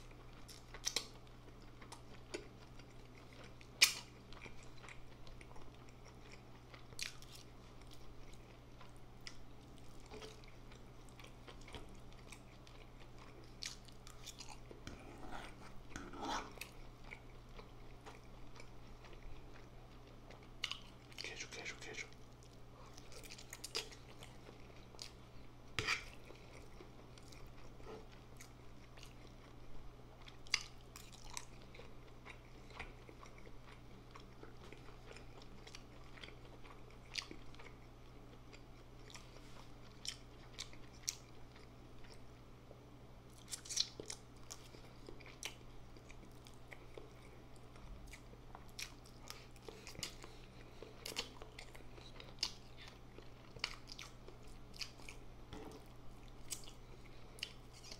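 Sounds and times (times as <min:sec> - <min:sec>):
chewing noodles: 0:00.0 - 0:21.3, 0:22.3 - 0:42.3, 0:43.3 - 0:57.9.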